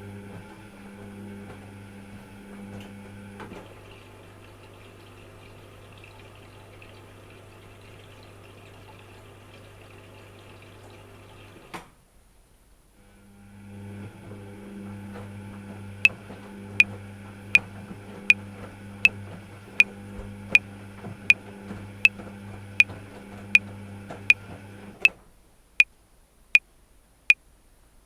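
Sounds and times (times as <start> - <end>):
washing machine humming: 0.0 - 11.7, 13.3 - 25.1.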